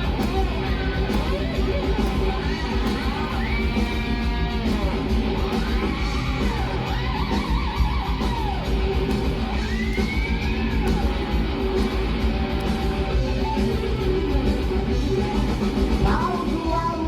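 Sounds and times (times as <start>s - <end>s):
electric guitar lead with bent notes: 0.0s - 17.0s
rock backing band: 0.0s - 17.0s.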